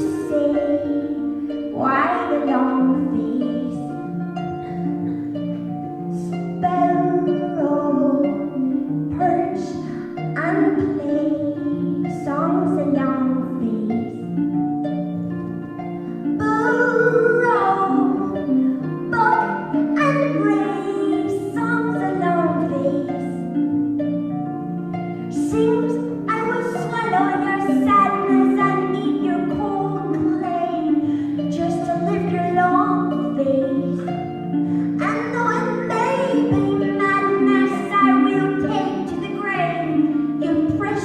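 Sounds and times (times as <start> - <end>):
solo harp playing: 0.0 - 41.0.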